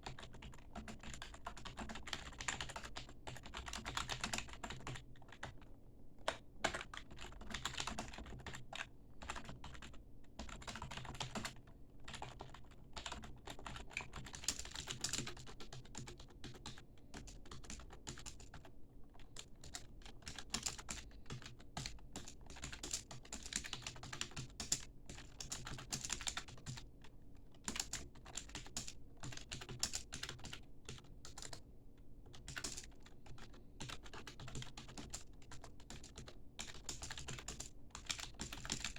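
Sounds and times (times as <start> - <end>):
typing on keyboard: 0.0 - 31.6, 32.2 - 38.9.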